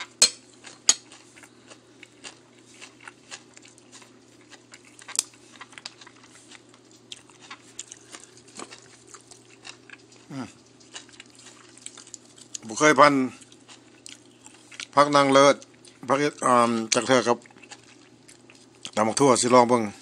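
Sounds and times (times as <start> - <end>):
person chewing food: 0.0 - 19.0
steady low hum: 0.0 - 20.0.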